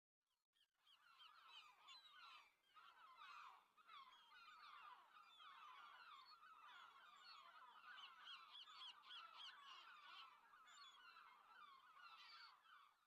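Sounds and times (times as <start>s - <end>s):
flock of birds calling: 1.4s - 12.9s.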